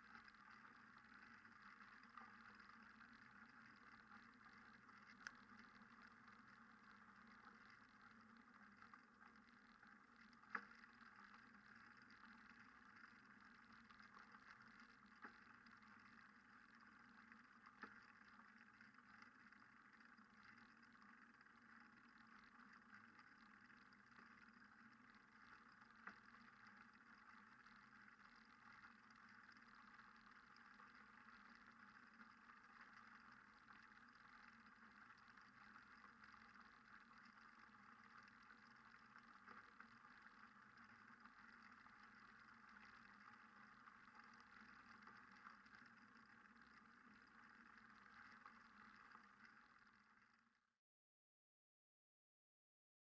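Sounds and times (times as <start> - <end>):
faint clicks: 0.0 - 50.4.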